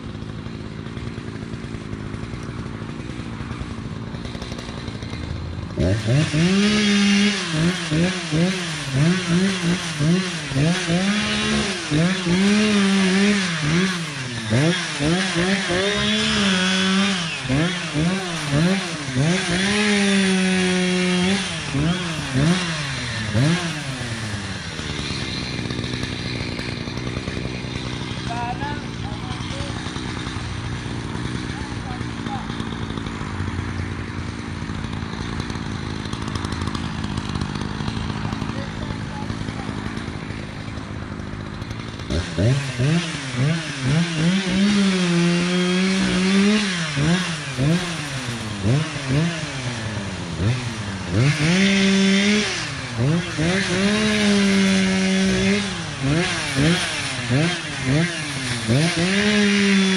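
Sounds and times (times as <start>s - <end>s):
chainsaw revving and running: 0.0s - 59.9s.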